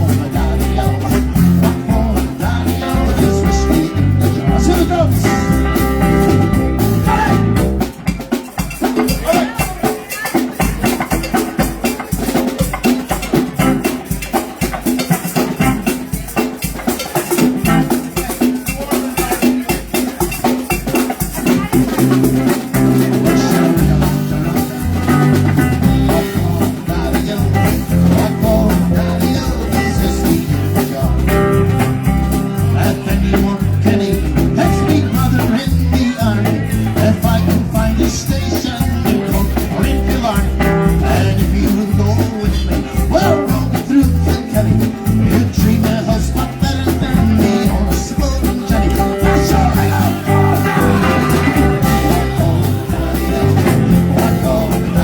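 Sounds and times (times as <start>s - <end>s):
walking bass line: 0.0s - 8.4s, 13.3s - 14.1s, 14.8s - 16.2s, 17.3s - 18.4s, 20.9s - 55.0s
drum kit: 0.0s - 55.0s
electric guitar: 0.0s - 55.0s.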